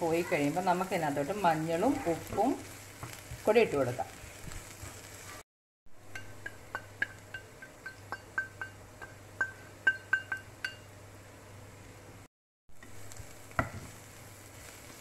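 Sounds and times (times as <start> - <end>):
faint sizzle of frying: 0.0 - 15.0.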